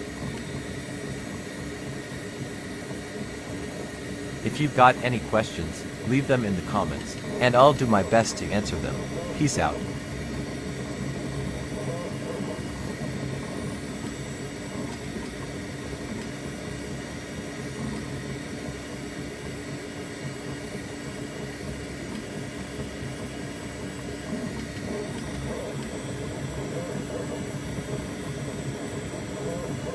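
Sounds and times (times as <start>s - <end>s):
printer fans and motors whirring: 0.0s - 29.9s.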